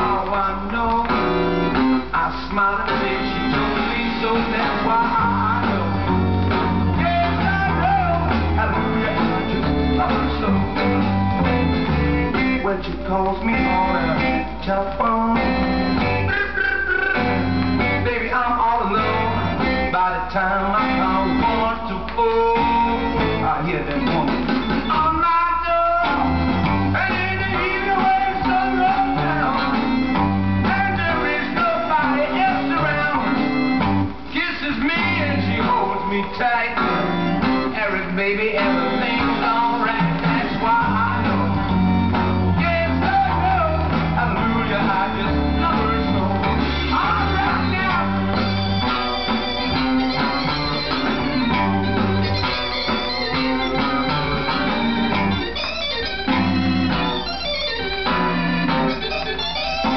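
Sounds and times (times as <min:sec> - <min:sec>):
rock and roll instrumental record: 0:00.0 - 0:59.9.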